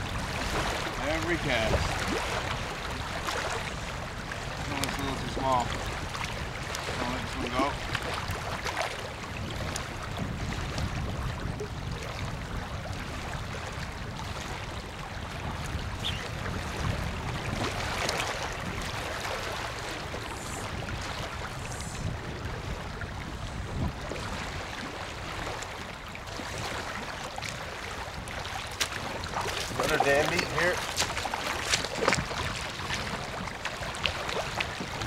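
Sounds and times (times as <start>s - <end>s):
waves lapping on rocky shore: 0.0s - 35.0s
wind rumbling on microphone: 0.0s - 35.0s.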